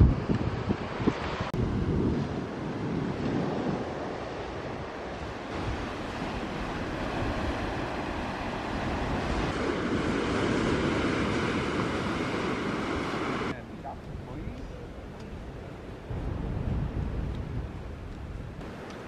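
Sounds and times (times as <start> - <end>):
ocean surf on beach: 0.0 - 19.0.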